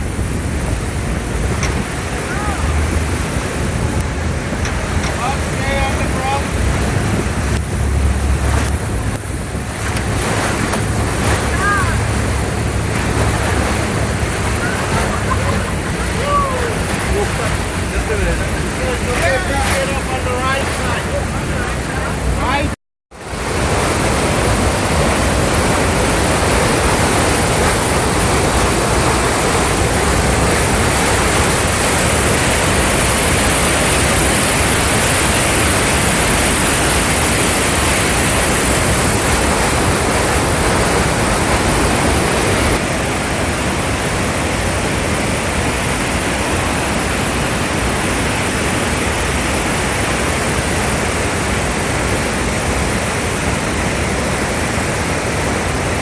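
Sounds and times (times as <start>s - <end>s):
waterfall thundering: 0.0s - 56.0s.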